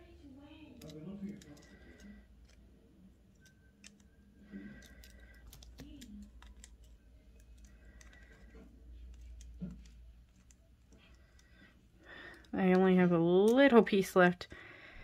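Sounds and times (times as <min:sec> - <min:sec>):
pliers and wire clicking: 0:00.7 - 0:12.8, 0:13.4 - 0:13.8.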